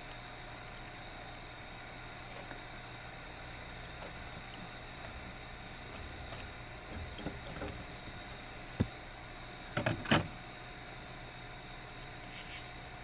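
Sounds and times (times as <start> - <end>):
thin high insect-like tone: 0.0 - 13.0.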